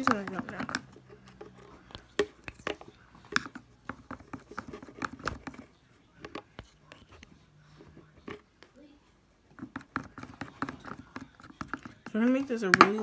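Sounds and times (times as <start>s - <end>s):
stick tapping plastic container: 0.0s - 7.2s, 9.5s - 13.0s.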